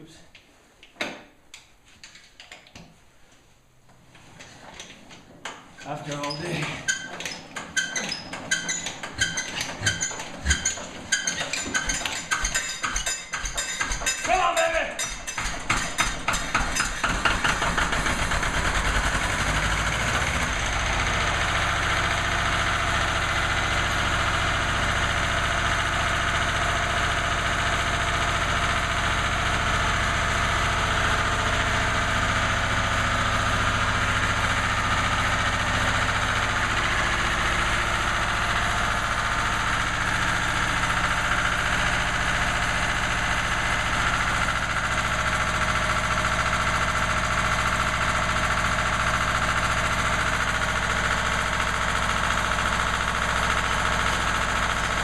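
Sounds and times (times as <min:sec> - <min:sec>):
diesel engine starting and running: 0:04.4 - 0:55.0.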